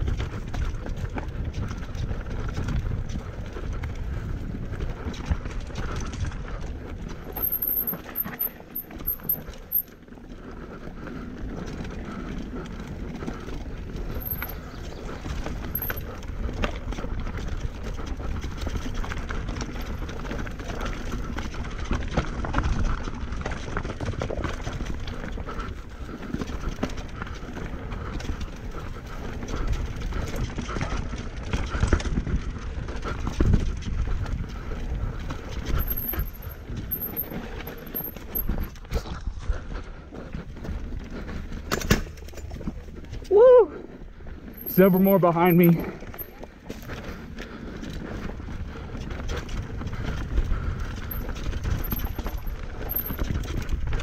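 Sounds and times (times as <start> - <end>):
bike tyres on dirt trail: 0.0 - 54.0.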